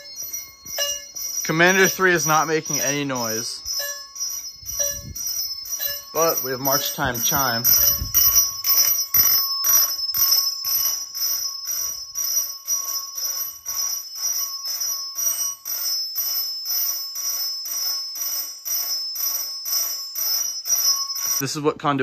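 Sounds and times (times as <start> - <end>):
fire alarm chimes striking: 0.0 - 21.4
high ringing tones: 0.0 - 21.7.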